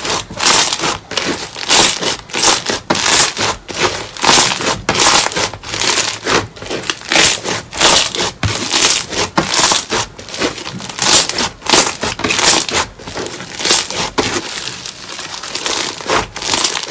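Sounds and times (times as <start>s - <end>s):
slime crackling and crunching: 0.0s - 16.9s.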